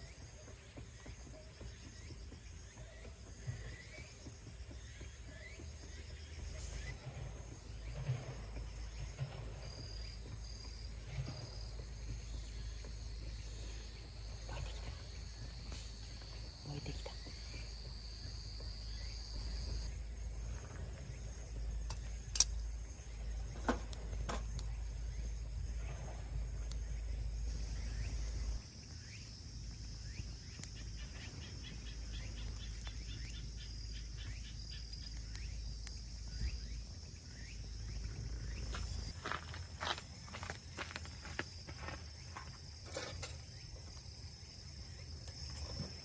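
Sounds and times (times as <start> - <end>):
insects trilling: 0.0 - 46.0
wood fire popping: 0.0 - 46.0.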